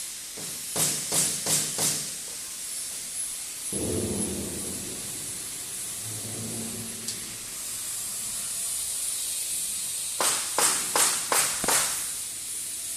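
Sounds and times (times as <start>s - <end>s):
welding arc hissing: 0.0s - 12.9s.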